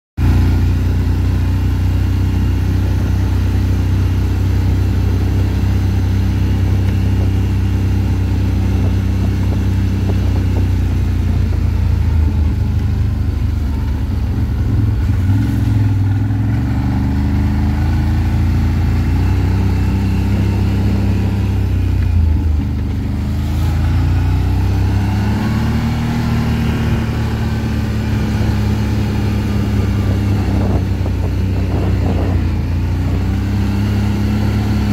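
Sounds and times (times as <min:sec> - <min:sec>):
atv engine running: 0:00.2 - 0:34.9.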